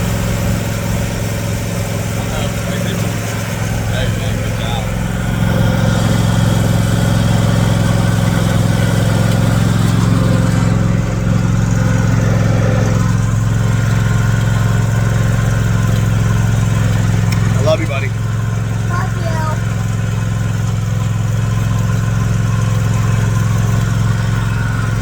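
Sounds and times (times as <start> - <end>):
riding lawn mower engine running: 0.0 - 25.0.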